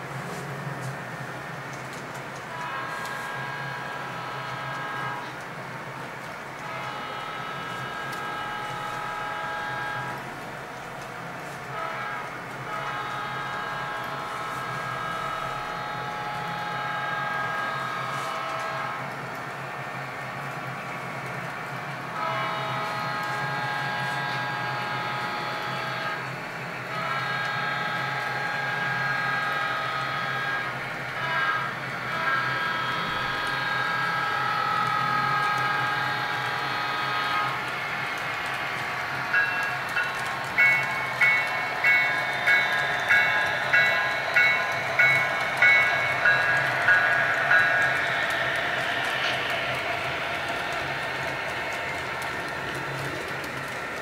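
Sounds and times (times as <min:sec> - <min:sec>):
model train running: 0:00.0 - 0:54.0.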